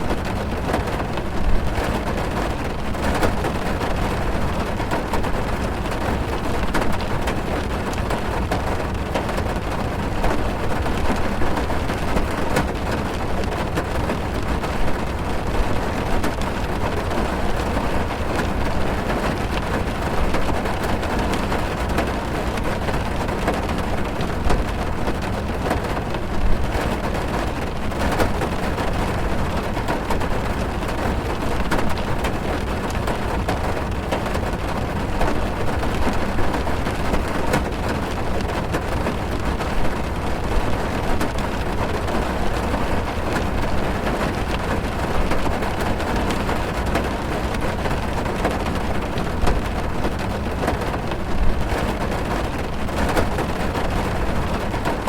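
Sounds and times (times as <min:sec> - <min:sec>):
heavy rain on a car roof: 0:00.0 - 0:55.0.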